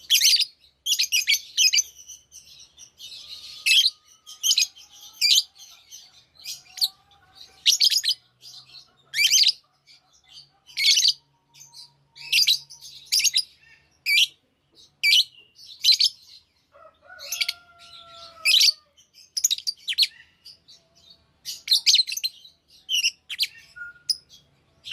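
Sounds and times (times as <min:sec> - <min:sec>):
lovebirds chirping: 0:00.0 - 0:24.9.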